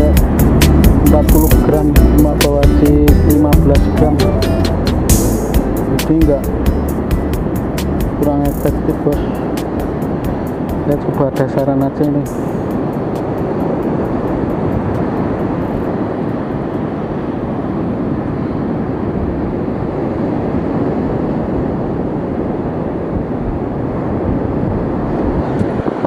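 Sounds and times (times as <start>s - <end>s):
surf washing: 0.0s - 26.0s
wind buffeting microphone: 0.0s - 26.0s.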